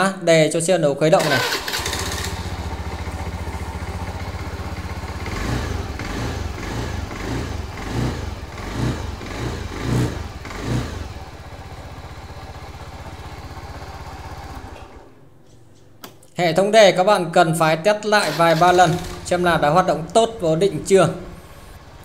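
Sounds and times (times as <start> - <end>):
scooter engine revving and idling: 1.2 - 15.2, 18.2 - 22.0.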